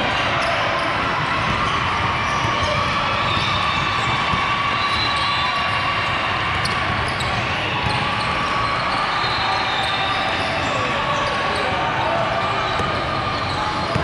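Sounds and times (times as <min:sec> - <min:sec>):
background murmur: 0:00.0 - 0:14.0.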